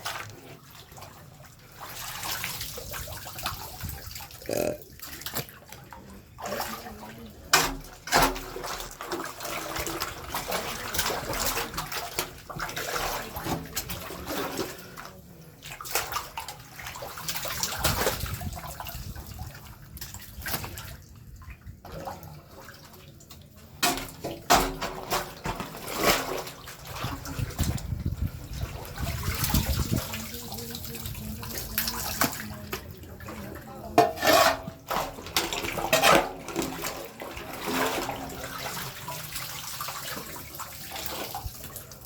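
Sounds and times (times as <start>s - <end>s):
wastewater splashing and sloshing: 0.0s - 42.0s.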